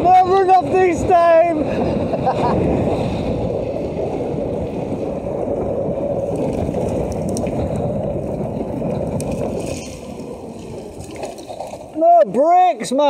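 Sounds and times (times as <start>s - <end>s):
bike tyres on wet road: 0.0s - 13.0s
wind rushing on microphone: 0.0s - 13.0s.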